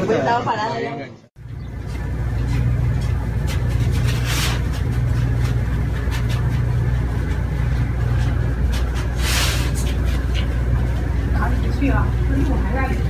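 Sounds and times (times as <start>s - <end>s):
low engine rumble: 1.4s - 13.0s.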